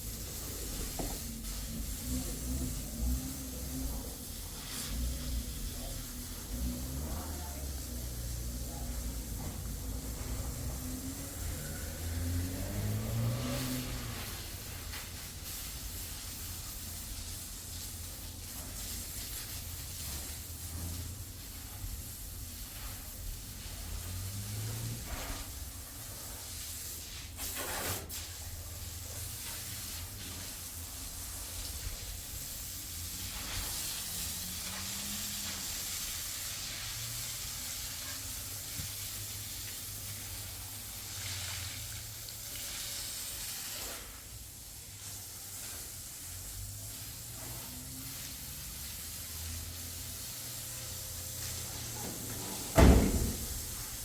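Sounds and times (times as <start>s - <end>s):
steady hissing noise: 0.0s - 54.0s.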